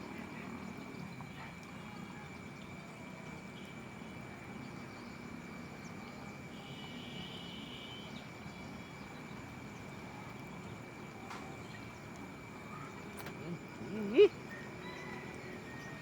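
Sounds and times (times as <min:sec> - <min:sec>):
constant high-pitched tone: 0:00.0 - 0:16.0
outdoor background noise: 0:00.0 - 0:16.0.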